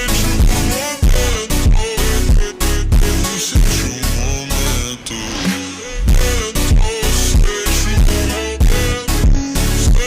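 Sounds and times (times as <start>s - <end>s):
background music with steady beat: 0.0s - 10.0s
deep bass hits: 0.1s - 10.0s.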